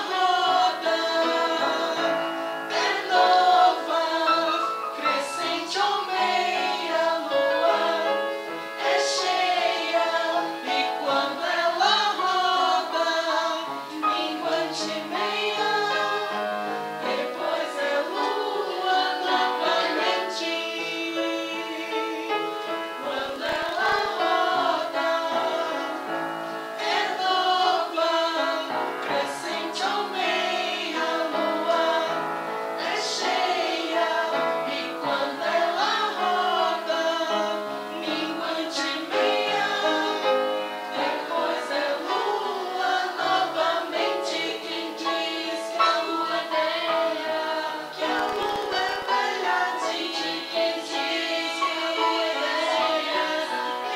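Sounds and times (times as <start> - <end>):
mixed choir singing: 0.0 - 53.9.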